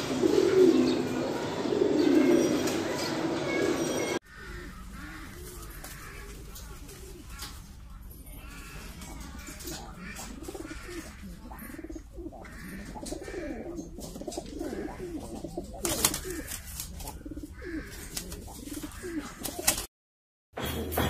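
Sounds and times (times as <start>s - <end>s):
pigeons cooing: 0.0s - 7.8s, 8.4s - 19.9s.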